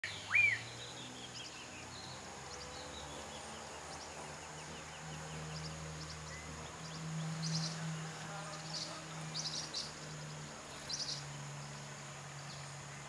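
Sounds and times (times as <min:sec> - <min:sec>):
faint high bird chirps: 0:00.0 - 0:12.7
steady high hiss: 0:00.0 - 0:13.0.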